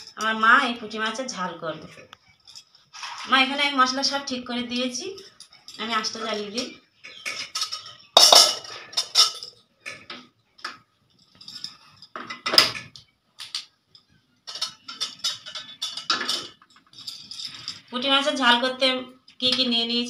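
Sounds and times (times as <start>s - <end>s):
cookware clattering and clinking: 0.0s - 0.5s, 1.8s - 17.9s.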